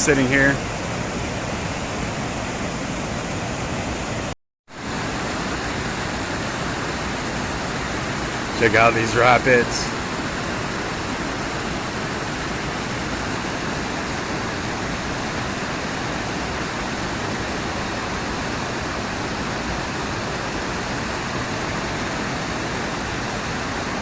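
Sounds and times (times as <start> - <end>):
whitewater rapids roaring: 0.0 - 24.0.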